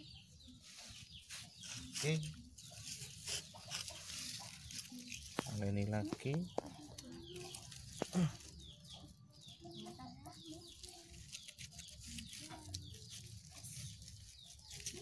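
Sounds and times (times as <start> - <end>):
chickens clucking: 0.0 - 15.0
small birds chirping: 0.0 - 15.0.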